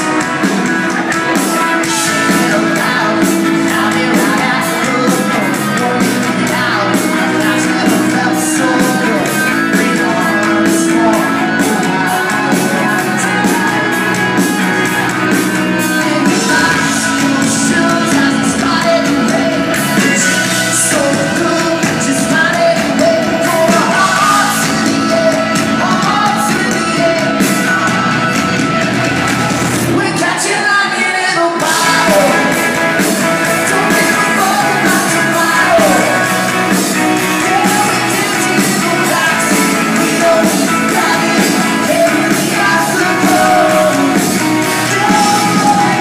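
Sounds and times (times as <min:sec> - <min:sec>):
lead vocal singing: 0:00.0 - 0:46.0
pop-rock band playing live: 0:00.0 - 0:46.0.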